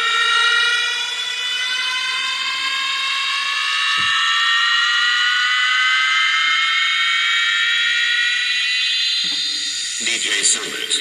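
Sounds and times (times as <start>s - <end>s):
high synthesized rising tone: 0.0s - 11.0s.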